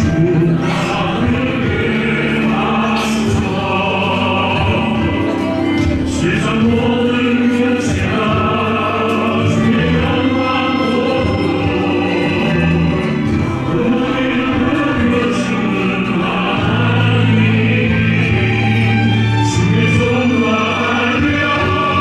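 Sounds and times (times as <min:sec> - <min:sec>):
choir singing worship song: 0:00.0 - 0:22.0
instrumental accompaniment: 0:00.0 - 0:22.0.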